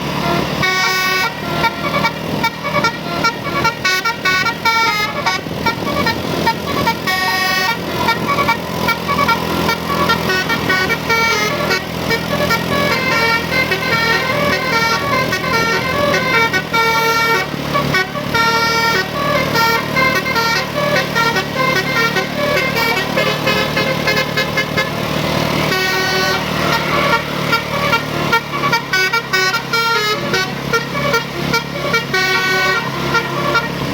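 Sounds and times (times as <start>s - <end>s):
multi-tone vehicle horn tune: 0.0s - 33.9s.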